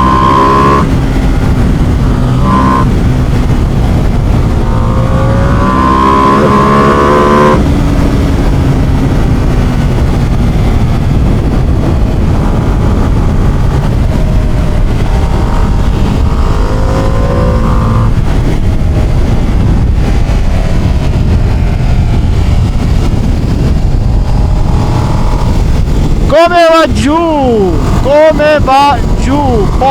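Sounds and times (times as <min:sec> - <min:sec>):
motorcycle engine revving: 0:00.0 - 0:26.3.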